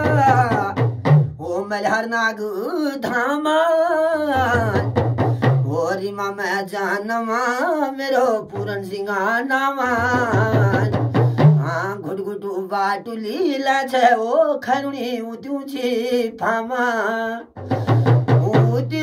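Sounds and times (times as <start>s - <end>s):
man singing folk song: 0.0s - 19.0s.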